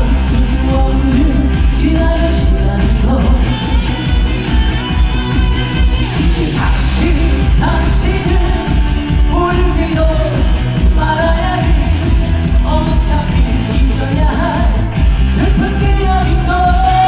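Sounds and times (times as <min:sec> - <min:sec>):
man singing live: 0:00.0 - 0:04.6, 0:06.0 - 0:17.0
amplified pop backing music: 0:00.0 - 0:17.0.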